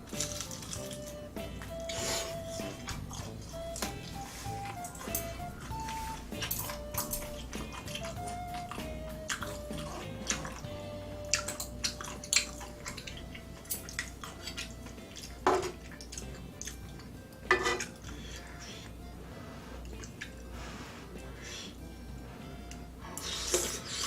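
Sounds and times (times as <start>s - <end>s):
wet chewing clicks and smacks: 0.0s - 18.9s, 19.8s - 20.4s
quiet background music: 0.0s - 24.0s.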